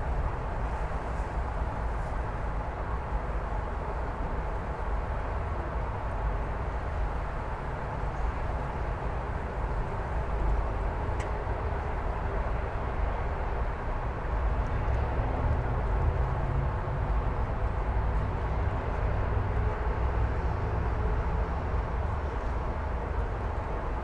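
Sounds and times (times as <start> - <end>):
freeway traffic rumble: 0.0 - 24.0.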